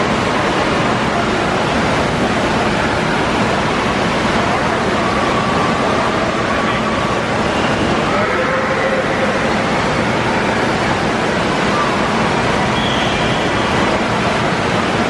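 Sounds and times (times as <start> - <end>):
faint chatter of swimmers: 0.0 - 15.0
running and splashing water: 0.0 - 15.0.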